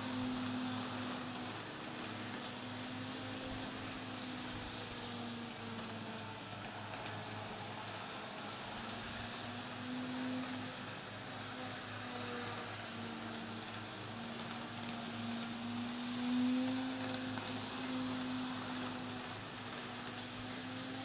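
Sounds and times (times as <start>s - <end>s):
model train motor humming: 0.0s - 21.0s.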